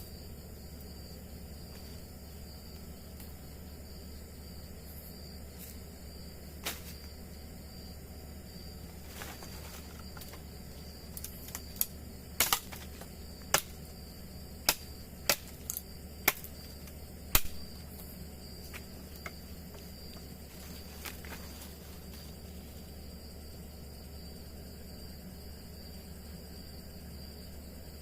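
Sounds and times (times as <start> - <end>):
night insects trilling: 0.0 - 28.0.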